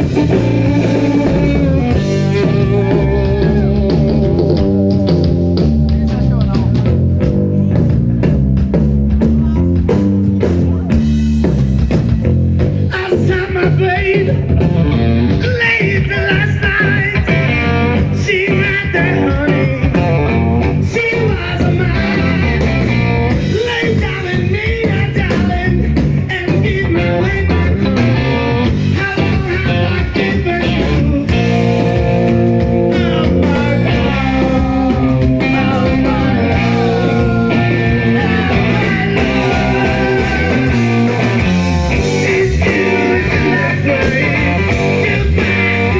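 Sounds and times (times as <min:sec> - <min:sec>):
bass: 0:00.0 - 0:45.9
drums: 0:00.0 - 0:45.9
electric guitar: 0:00.0 - 0:45.9.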